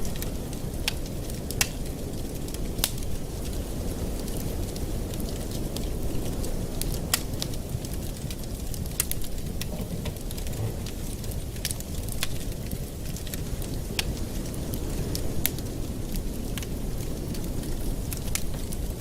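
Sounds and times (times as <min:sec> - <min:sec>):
fireplace fire crackling: 0:00.0 - 0:19.0.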